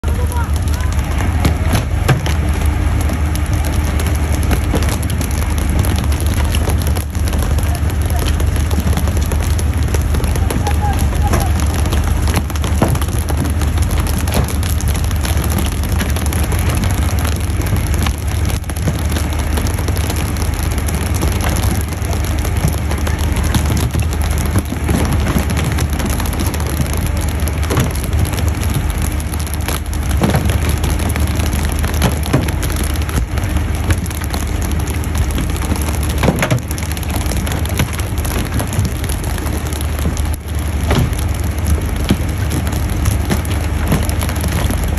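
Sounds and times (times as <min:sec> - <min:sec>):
low engine drone: 0:00.0 - 0:44.9.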